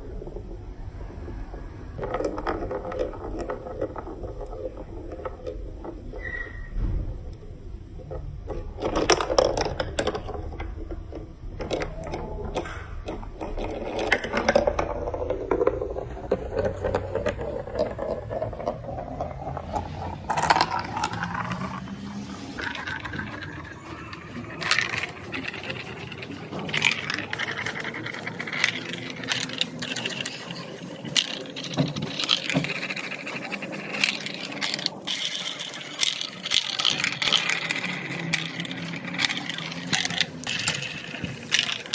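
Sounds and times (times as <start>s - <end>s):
marbles clicking and clacking: 0.0s - 41.9s
marbles rolling rumble: 0.0s - 41.9s.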